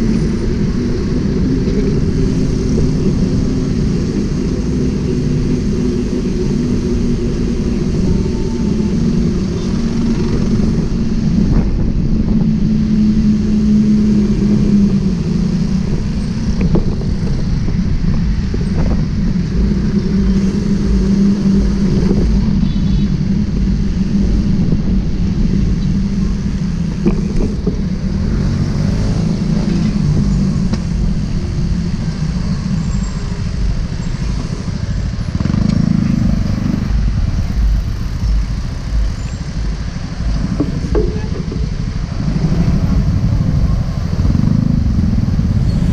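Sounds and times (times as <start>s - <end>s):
road traffic engines: 0.0s - 45.9s.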